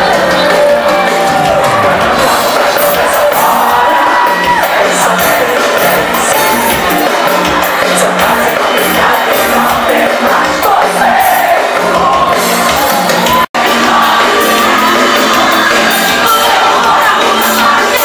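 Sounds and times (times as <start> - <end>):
crowd shouting and cheering: 0.0 - 18.0
crowd singing along: 0.0 - 18.0
live band music: 0.0 - 18.0.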